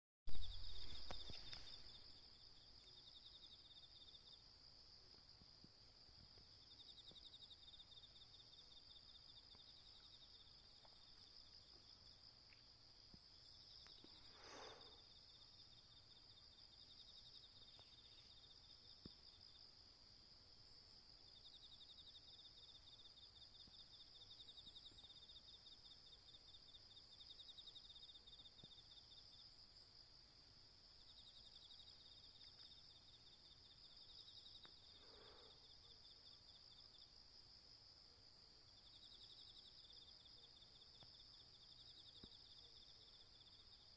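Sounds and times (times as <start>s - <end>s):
insects trilling chorus: 0.3s - 4.5s, 6.5s - 12.7s, 13.3s - 19.7s, 21.2s - 29.8s, 30.8s - 37.6s, 38.5s - 43.9s
pulsing insect trill: 0.3s - 4.6s, 6.4s - 19.8s, 20.9s - 30.1s, 30.8s - 43.9s.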